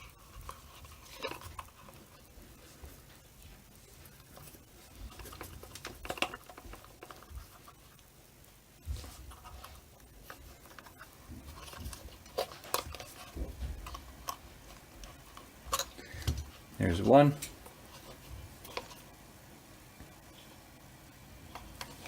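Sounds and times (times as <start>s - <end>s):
small clicks and scrapes of wires: 0.0s - 8.2s, 8.8s - 19.1s, 21.4s - 22.0s.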